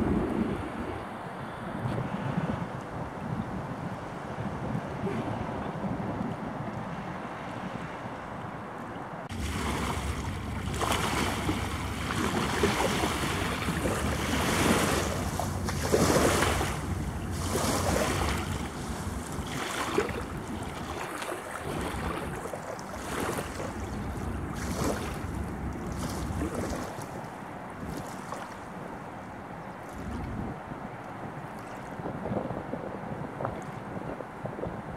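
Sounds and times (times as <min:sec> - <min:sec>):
waves lapping on sandy shore: 0:00.0 - 0:34.9
wind buffeting microphone: 0:00.0 - 0:34.9.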